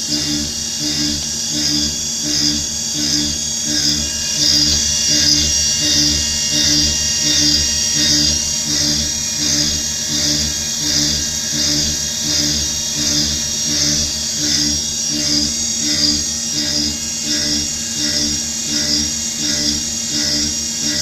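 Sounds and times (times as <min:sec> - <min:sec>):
end mill cutting metal: 0:00.0 - 0:21.0
milling machine spindle whine: 0:00.0 - 0:21.0.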